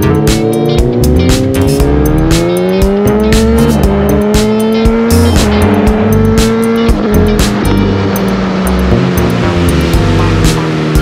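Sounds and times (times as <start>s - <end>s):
music with drum beat: 0.0s - 11.0s
rising tone: 0.0s - 11.0s.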